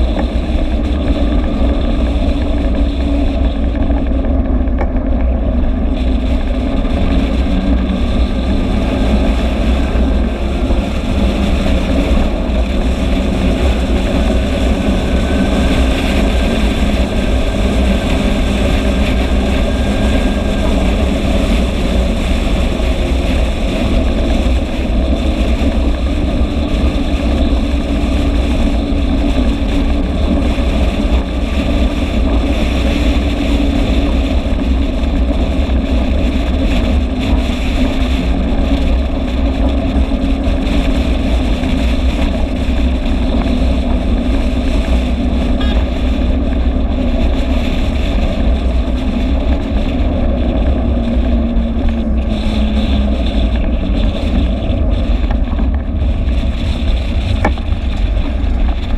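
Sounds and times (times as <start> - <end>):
scooter engine running: 0.0 - 58.9
wind noise on microphone: 0.0 - 58.9.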